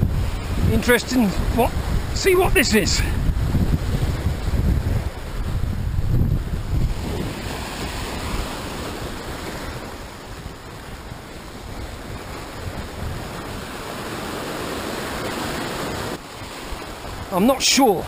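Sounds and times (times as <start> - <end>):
waves breaking over rocks: 0.0 - 18.0
wind buffeting microphone: 0.0 - 18.0.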